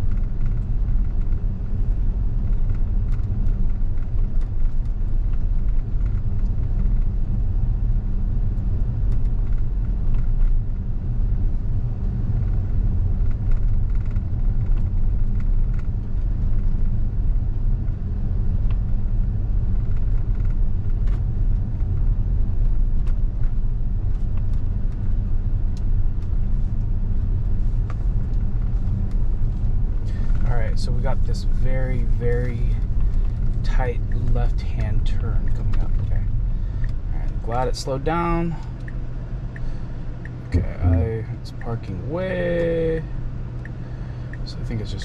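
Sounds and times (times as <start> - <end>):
road and tyre rumble in car: 0.0 - 45.0.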